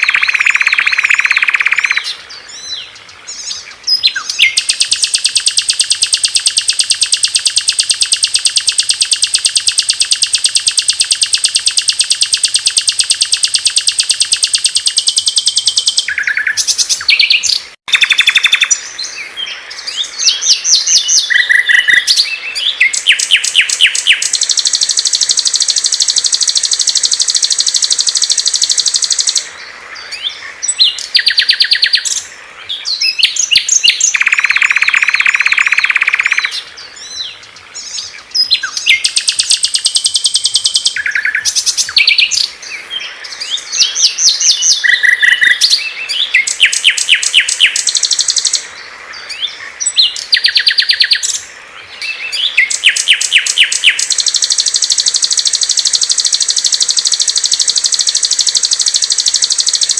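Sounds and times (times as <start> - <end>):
low steady bird trill: 0.0 - 59.9
songbirds singing: 0.0 - 59.9.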